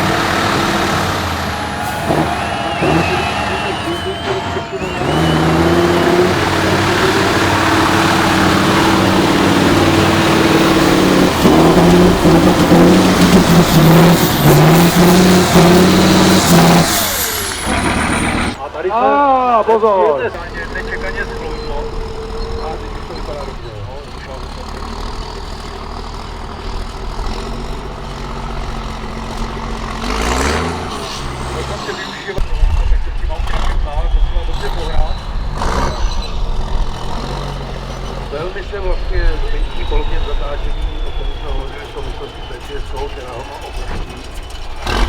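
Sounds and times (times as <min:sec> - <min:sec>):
diesel truck engine revving hard: 0:00.0 - 0:45.0.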